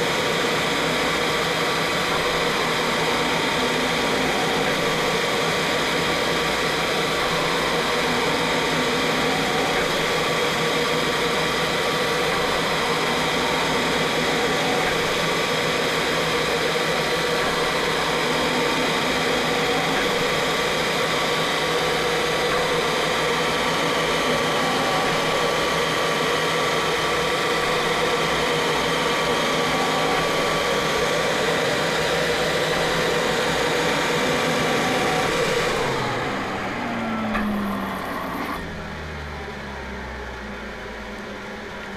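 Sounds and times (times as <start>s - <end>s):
cnc machine whirring: 0.0s - 41.9s
faint steady whines: 0.0s - 41.9s.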